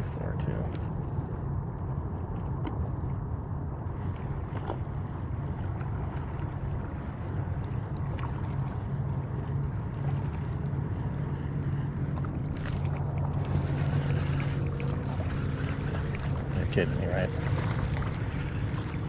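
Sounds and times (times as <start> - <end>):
faint high whine: 0.0 - 19.0
wind and water rumble: 0.0 - 19.0.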